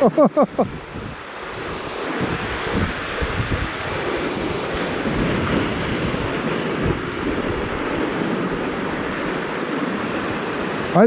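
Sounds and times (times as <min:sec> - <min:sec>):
surf breaking on rocks: 0:00.0 - 0:11.0
wind buffeting microphone: 0:00.5 - 0:11.0.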